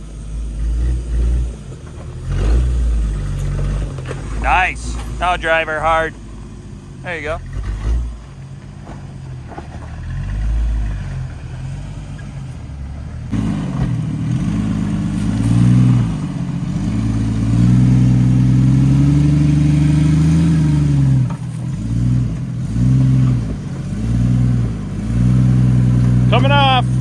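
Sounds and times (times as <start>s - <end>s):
off-road engine revving: 0.0s - 27.0s.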